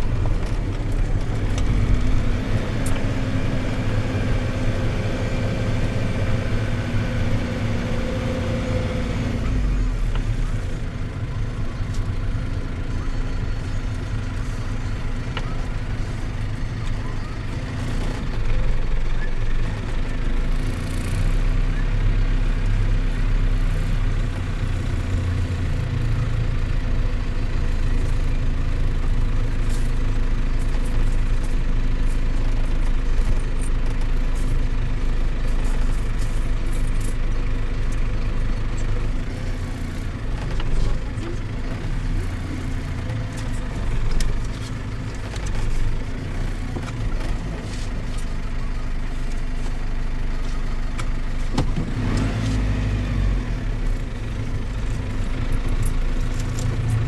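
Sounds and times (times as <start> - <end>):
minibus engine and road drone: 0.0 - 57.0.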